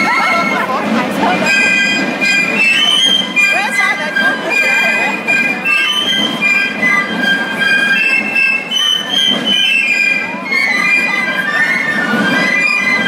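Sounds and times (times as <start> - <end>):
crowd: 0.0 - 13.0
drums rumbling: 0.0 - 13.0
piccolos playing march: 0.0 - 13.0.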